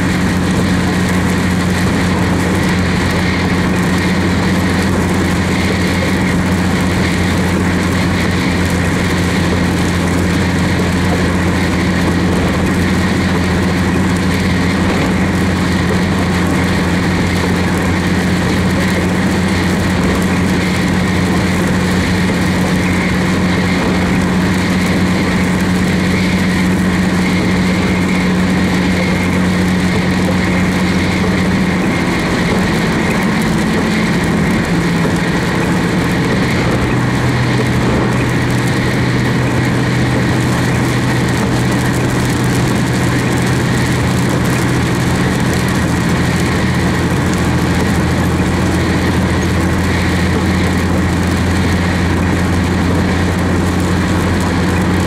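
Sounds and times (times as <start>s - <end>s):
engine drone: 0.0s - 55.0s
tyre noise on wet road: 0.0s - 55.0s.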